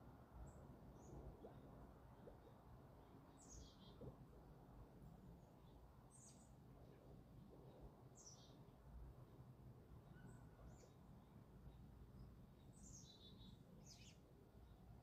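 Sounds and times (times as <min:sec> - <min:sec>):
songbird chirps: 0:00.0 - 0:15.0.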